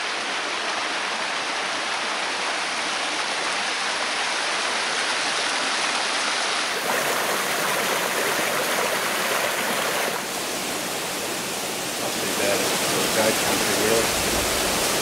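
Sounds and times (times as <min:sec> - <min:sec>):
cascading water rushing: 0:00.0 - 0:15.0.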